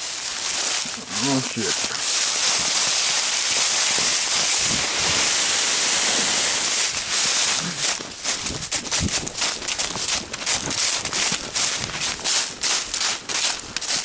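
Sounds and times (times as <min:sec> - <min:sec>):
footfalls crunching in leaves: 0:00.0 - 0:14.0
running through dry leaves: 0:00.0 - 0:14.0.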